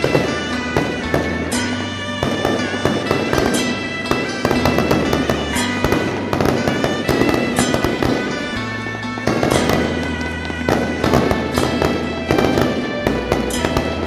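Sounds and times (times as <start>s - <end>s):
rapid firecracker crackling: 0.0s - 14.0s.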